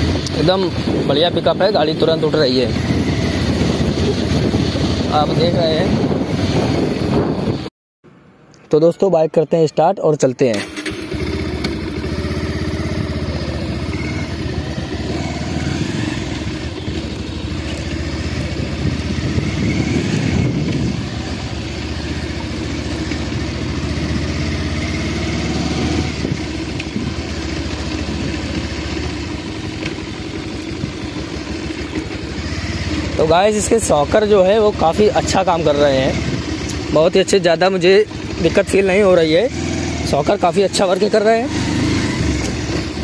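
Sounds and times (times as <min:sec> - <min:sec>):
motorcycle engine running: 0:00.0 - 0:07.7, 0:10.6 - 0:43.0.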